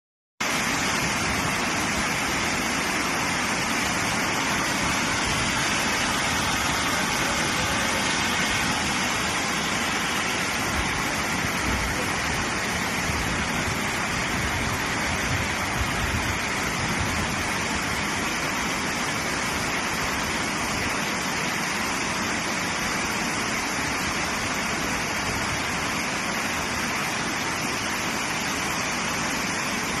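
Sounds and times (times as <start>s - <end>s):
water rushing over spillway: 0.4s - 30.0s.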